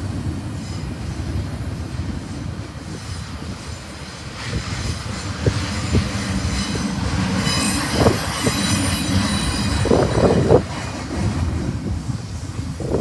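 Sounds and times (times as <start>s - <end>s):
train wheels rumbling on rail: 0.0s - 13.0s
high wheel squeal: 0.6s - 11.4s.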